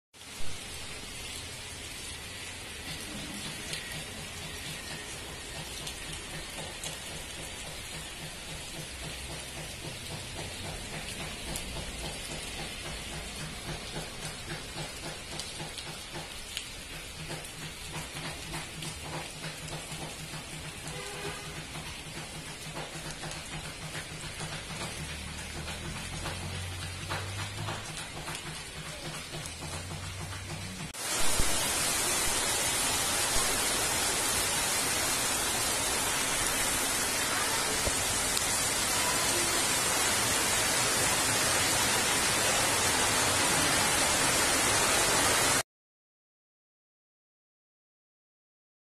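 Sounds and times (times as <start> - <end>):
heavy rain falling: 0.2 - 45.6.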